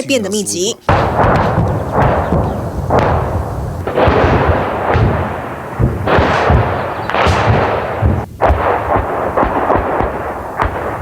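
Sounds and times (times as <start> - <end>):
artillery shell blasts: 0.9 - 11.0.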